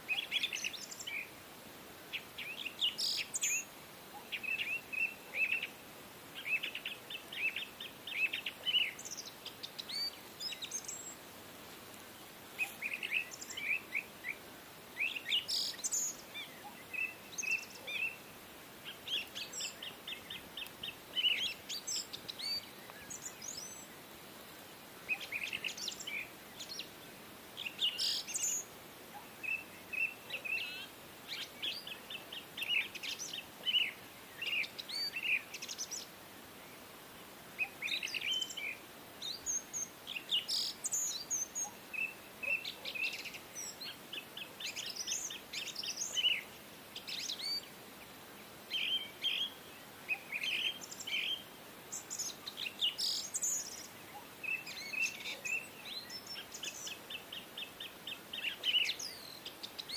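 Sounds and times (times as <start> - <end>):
faint background hiss: 0.0 - 59.9
small birds chirping: 0.0 - 59.9.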